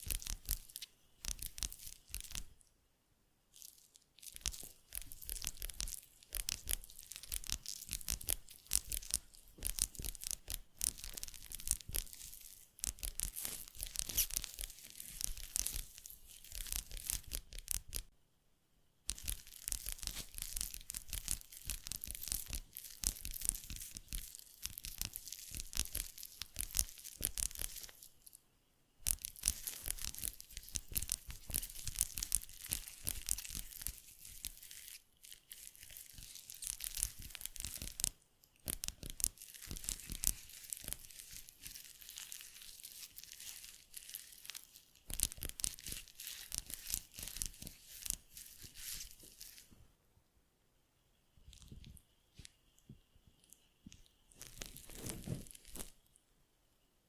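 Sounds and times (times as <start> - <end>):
rapid crackling and crinkling: 0.0 - 2.7, 3.5 - 18.1, 19.0 - 28.4, 29.0 - 50.0, 51.2 - 56.3.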